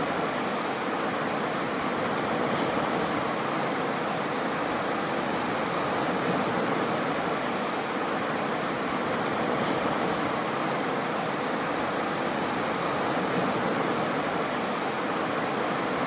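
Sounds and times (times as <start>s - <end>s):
small waves washing onto beach: 0.0s - 16.0s.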